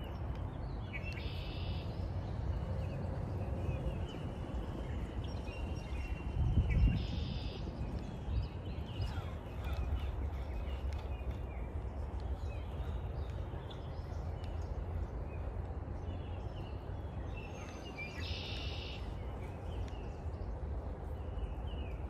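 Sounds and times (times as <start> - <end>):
birds singing: 0.0 - 22.0
low rumble on the microphone: 1.8 - 22.0.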